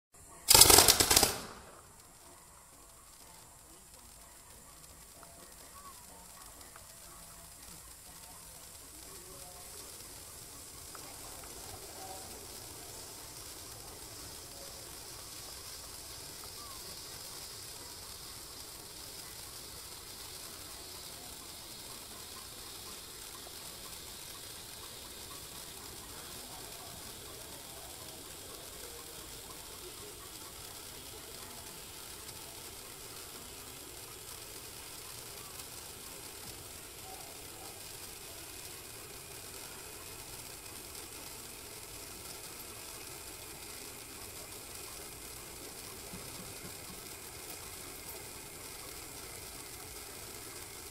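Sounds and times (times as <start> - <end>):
firework sparks hissing: 0.2 - 50.9.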